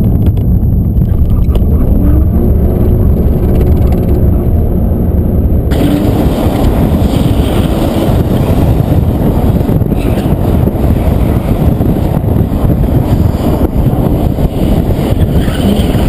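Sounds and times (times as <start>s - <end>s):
car engine running hard: 0.0s - 16.0s
road noise: 0.0s - 16.0s.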